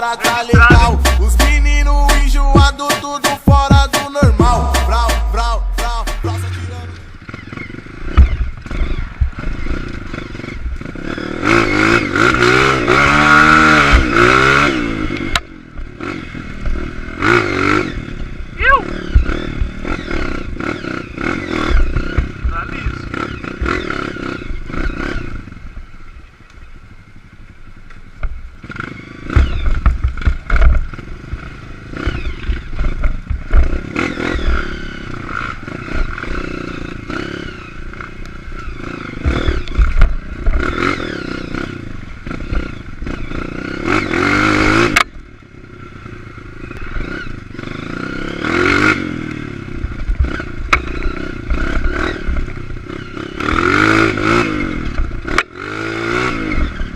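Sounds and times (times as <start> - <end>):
dirt bike engine revving: 0.0 - 26.4, 28.5 - 56.9.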